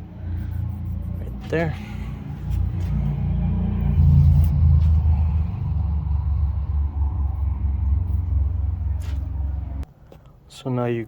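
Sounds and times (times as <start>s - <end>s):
low rumble: 0.0s - 9.9s.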